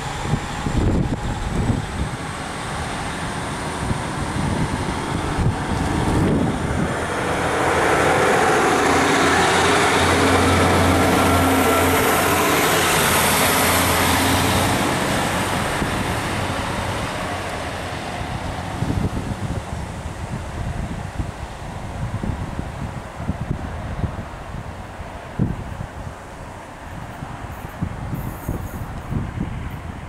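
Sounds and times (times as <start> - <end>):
diesel train engines running: 0.0 - 30.0
train wheel and rail noise: 0.0 - 30.0.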